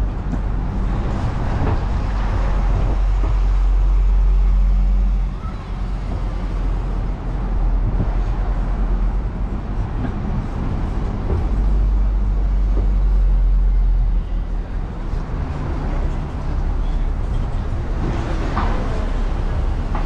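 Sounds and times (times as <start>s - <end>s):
buses driving by: 0.0s - 20.0s.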